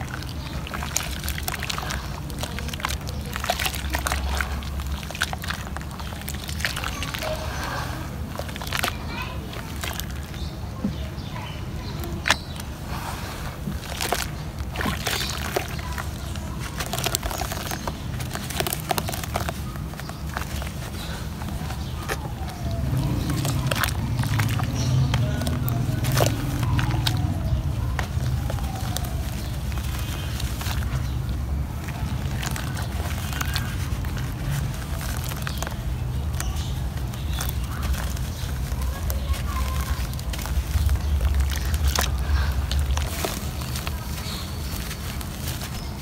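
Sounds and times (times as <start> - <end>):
small clicks and crackles: 0.0 - 46.0
steady low rumble: 0.0 - 46.0
wet mud squelching: 0.0 - 46.0.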